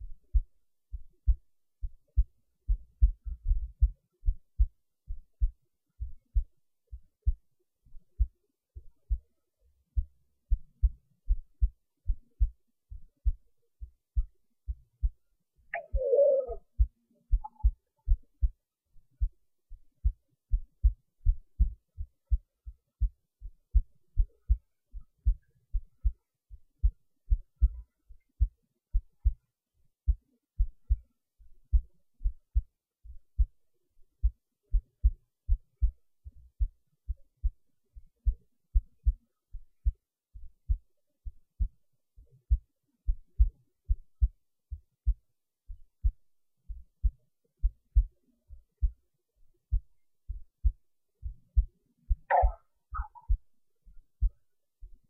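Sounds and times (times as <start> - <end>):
heartbeat thuds: 0.0 - 15.2, 15.8 - 29.4, 30.1 - 49.0, 49.6 - 55.0.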